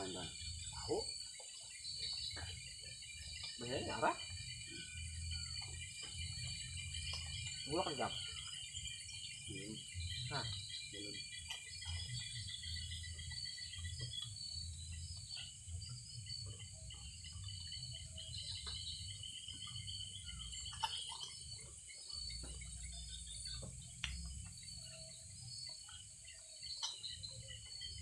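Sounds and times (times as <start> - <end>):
night insects chirping: 0.0 - 28.0.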